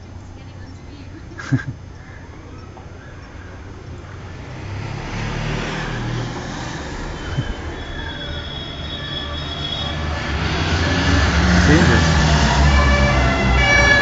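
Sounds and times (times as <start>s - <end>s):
motorcycle engines approaching: 0.0s - 14.0s.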